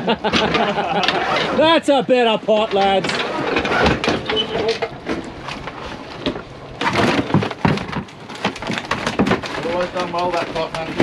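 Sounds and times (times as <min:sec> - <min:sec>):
lobster pot clattering and scraping: 0:00.0 - 0:11.0.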